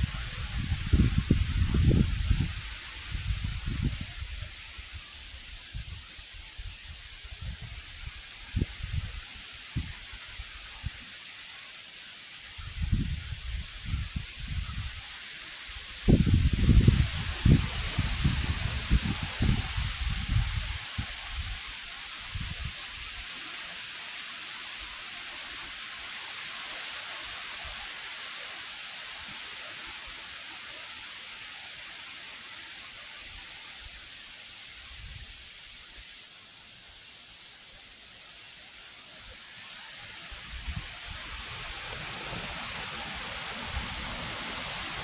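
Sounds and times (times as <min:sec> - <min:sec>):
wind rushing through trees: 0:00.0 - 0:45.0.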